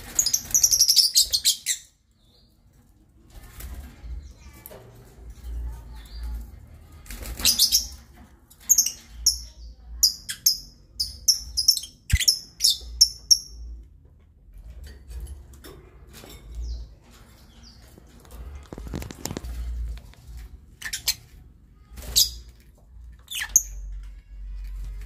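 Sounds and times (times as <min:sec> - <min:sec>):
birds chirping: 0:00.0 - 0:13.9, 0:14.7 - 0:25.0.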